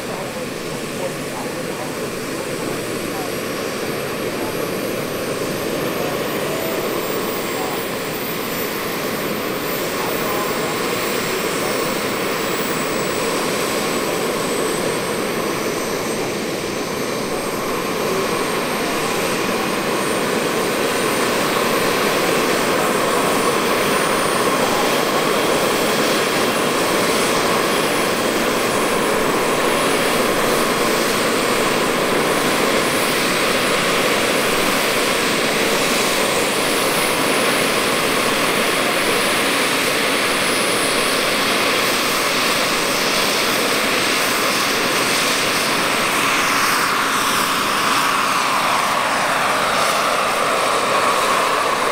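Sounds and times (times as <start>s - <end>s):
turbine engine whine: 0.0s - 51.9s.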